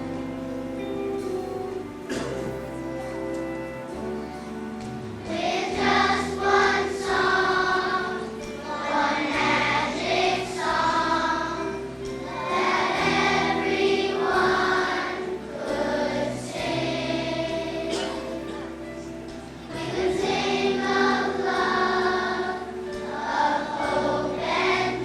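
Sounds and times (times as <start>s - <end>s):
children's choir singing: 0.0s - 25.0s
instrumental accompaniment: 0.0s - 25.0s.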